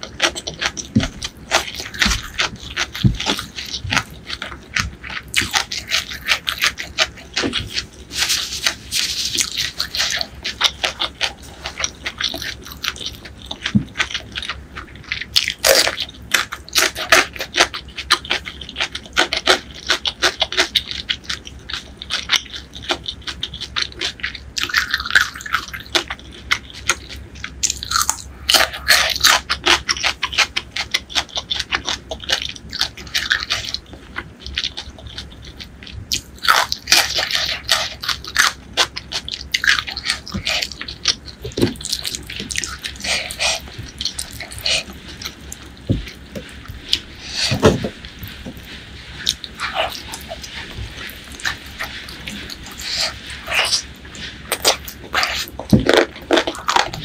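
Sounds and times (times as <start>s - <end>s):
chewing crispy food: 0.0s - 57.0s.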